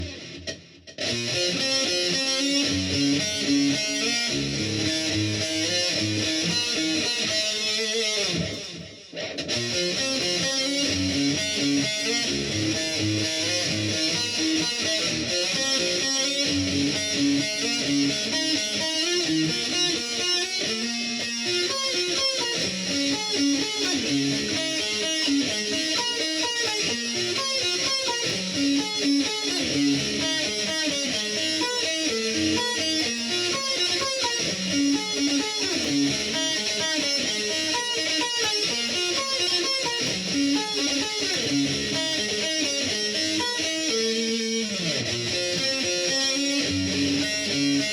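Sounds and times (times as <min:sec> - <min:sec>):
distorted electric guitar riff: 0:00.0 - 0:47.9.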